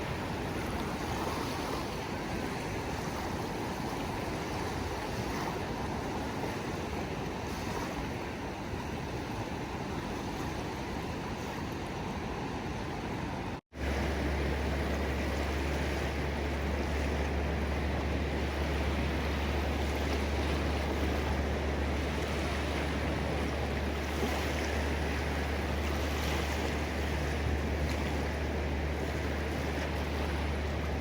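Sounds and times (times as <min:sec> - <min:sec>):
ocean surf: 0:00.0 - 0:31.0.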